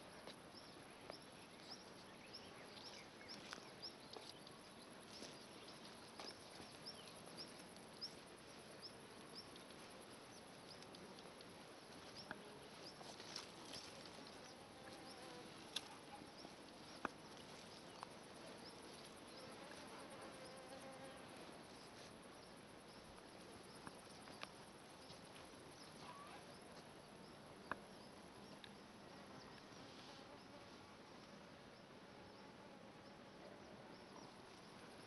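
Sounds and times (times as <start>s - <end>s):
insects buzzing: 0.0s - 35.0s.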